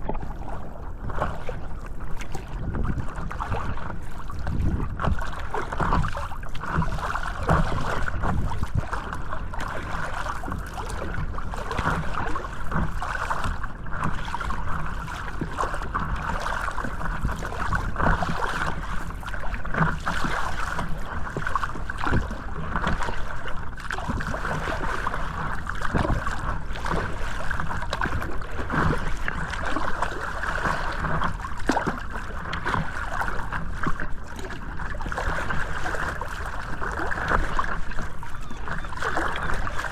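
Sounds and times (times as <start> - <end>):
sea water noise: 0.0 - 39.9.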